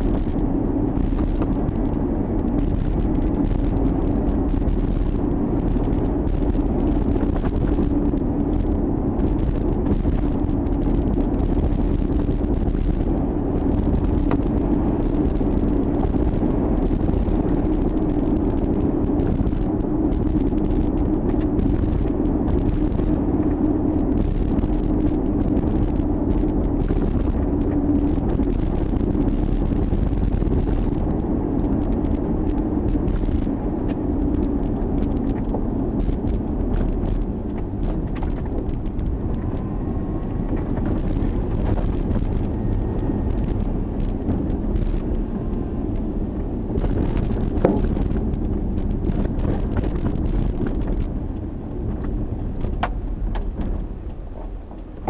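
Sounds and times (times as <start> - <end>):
vehicle engine and road drone: 0.0 - 55.0.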